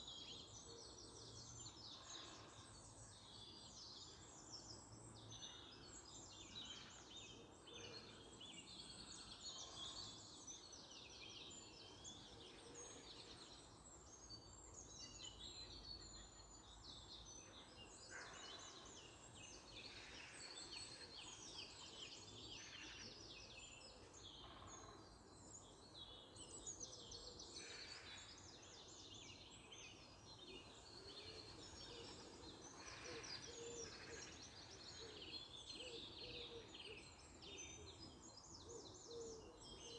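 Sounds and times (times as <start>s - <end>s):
small birds singing and chirping: 0.0s - 39.9s.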